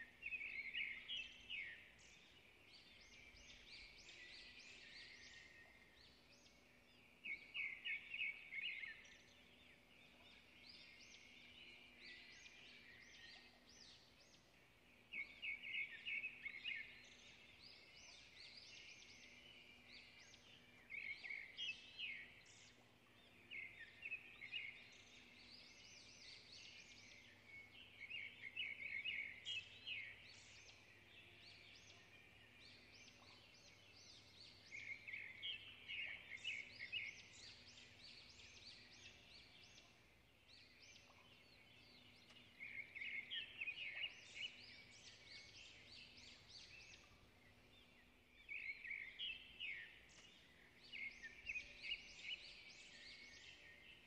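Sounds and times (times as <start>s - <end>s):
faint bird chirping: 0.0s - 54.0s.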